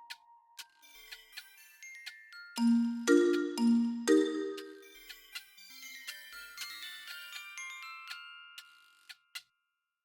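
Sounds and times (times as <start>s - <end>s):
bell-like mallet music: 0.0s - 9.0s
sharp ticks: 0.0s - 9.5s.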